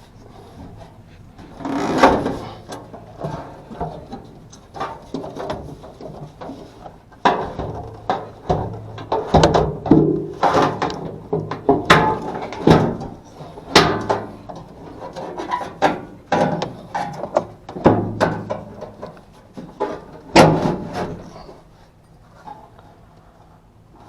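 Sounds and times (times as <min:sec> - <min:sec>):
low steady hum: 0:00.0 - 0:24.0
tools and parts clattering: 0:01.4 - 0:21.6.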